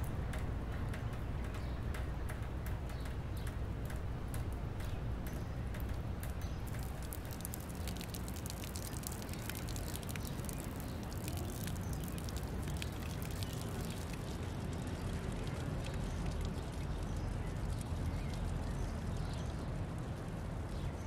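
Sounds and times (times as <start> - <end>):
water dripping from a downspout: 0.0 - 19.7
low steady rumble: 0.0 - 21.0.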